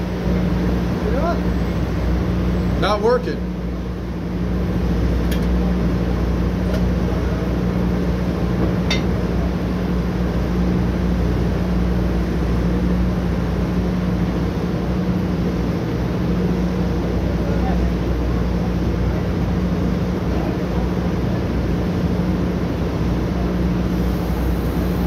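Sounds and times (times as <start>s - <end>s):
machinery humming and rumbling: 0.0s - 25.0s.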